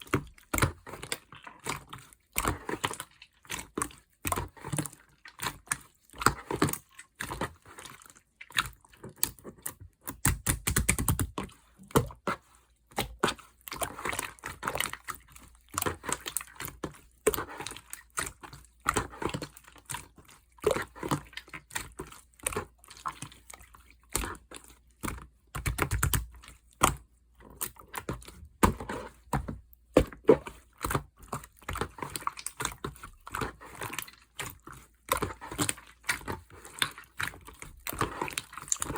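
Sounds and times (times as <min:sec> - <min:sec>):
heavy slime squelches: 0:00.0 - 0:10.2, 0:11.2 - 0:38.9.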